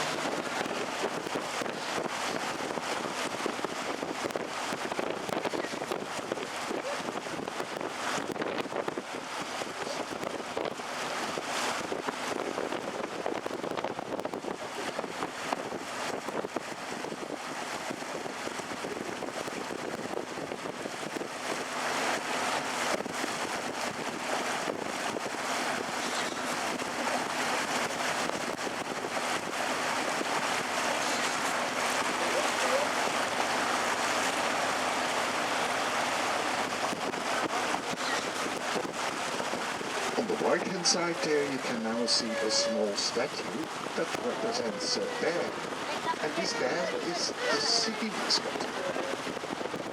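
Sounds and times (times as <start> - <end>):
wind buffeting microphone: 0.0 - 41.3, 48.5 - 49.9
boat motor hum: 0.0 - 49.9
water wash: 0.0 - 49.9.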